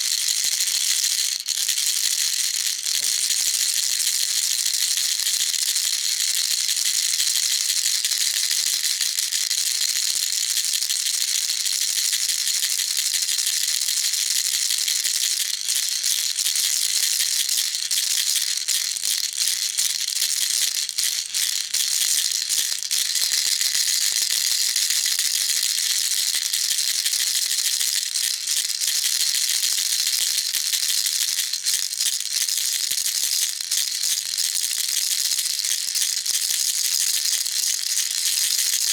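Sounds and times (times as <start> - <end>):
baby rattle shaking: 0.0 - 8.9, 12.2 - 38.9.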